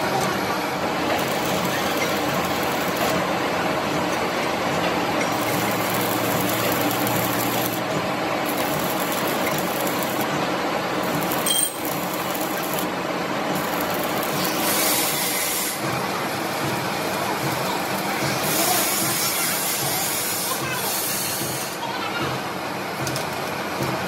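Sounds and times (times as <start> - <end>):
heavy factory machinery running: 0.0 - 24.0.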